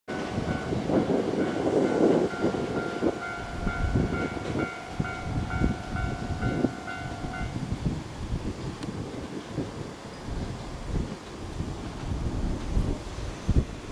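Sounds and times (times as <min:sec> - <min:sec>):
low train rumble: 0:00.1 - 0:13.9.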